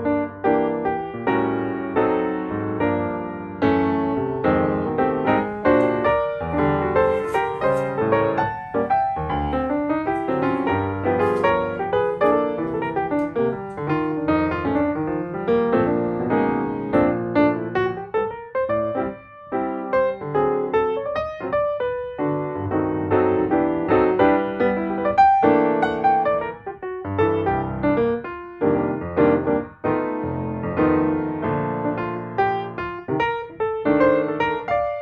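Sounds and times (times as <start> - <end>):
piano music: 0.0 - 35.0.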